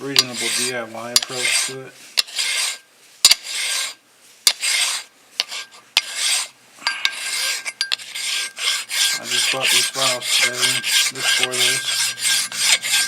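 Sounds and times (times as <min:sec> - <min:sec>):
hand file rasping metal: 0:00.1 - 0:13.0.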